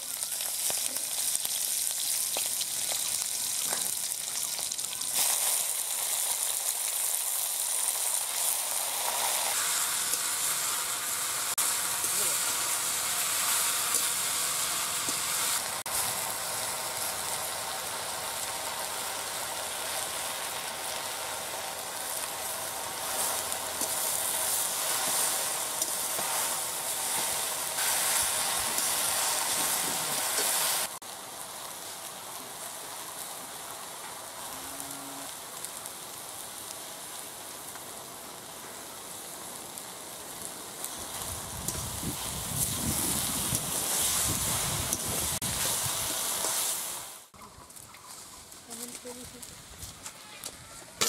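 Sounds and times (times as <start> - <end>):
leaves frying in oil: 0.0 - 51.0.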